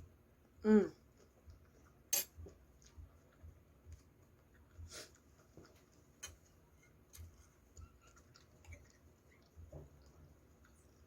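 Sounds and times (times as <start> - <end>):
faint chewing: 0.9 - 11.0.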